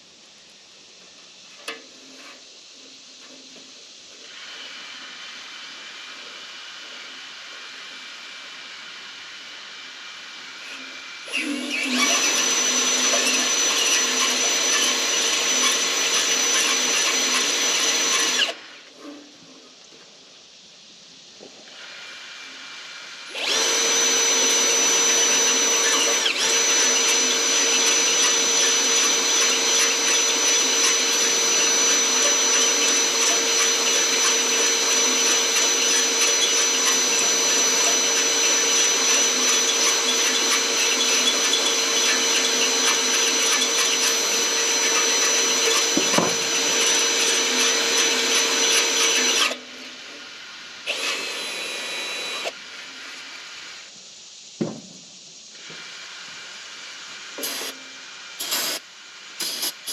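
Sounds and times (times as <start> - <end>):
electric drill motor whine: 1.1 - 19.2, 21.4 - 53.9, 55.6 - 59.9.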